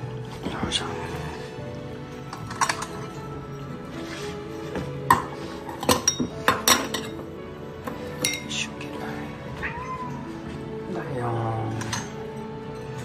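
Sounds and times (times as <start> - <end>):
metal bowls clinking: 0.2 - 8.9, 9.6 - 13.0.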